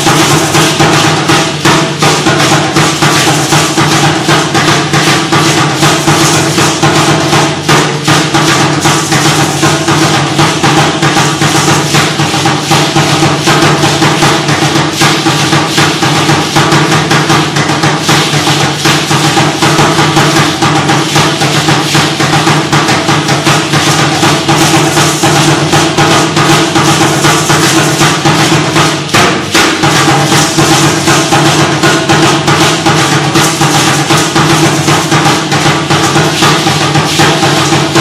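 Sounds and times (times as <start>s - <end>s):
drum beaten fast: 0.0s - 38.0s.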